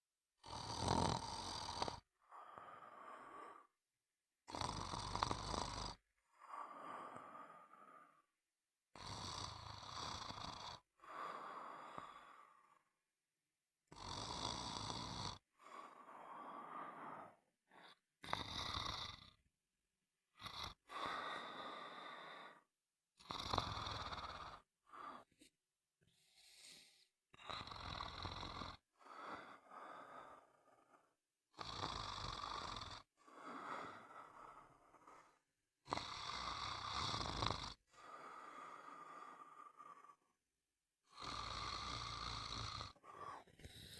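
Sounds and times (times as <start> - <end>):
person snoring: 0.4 - 3.8, 4.5 - 8.3, 8.9 - 13.0, 13.9 - 19.4, 20.3 - 25.5, 26.2 - 40.4, 41.0 - 43.9.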